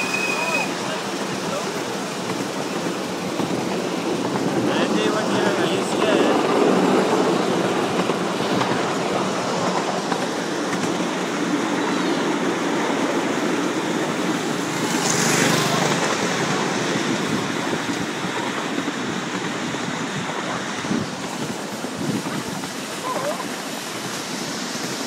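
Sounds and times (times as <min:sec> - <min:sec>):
steam hiss: 0:00.0 - 0:25.0
steam train rumbling on track: 0:00.0 - 0:25.0.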